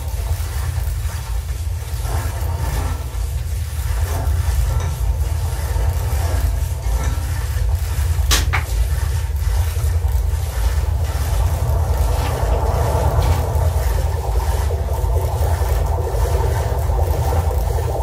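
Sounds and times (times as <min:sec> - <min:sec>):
dense low electronic drone: 0:00.0 - 0:18.0
scraping sound: 0:00.0 - 0:18.0.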